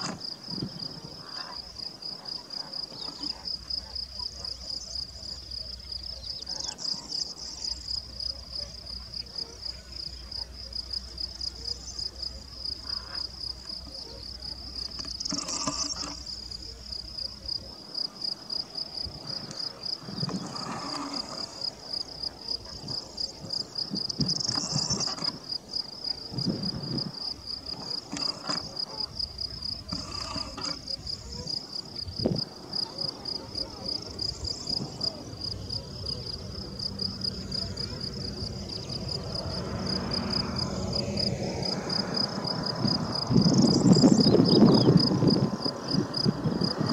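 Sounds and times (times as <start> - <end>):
insects chirping: 0.0 - 46.9.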